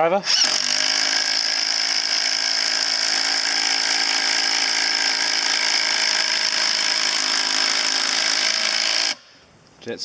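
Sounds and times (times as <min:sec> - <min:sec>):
impact driver driving screw: 0:00.3 - 0:09.2.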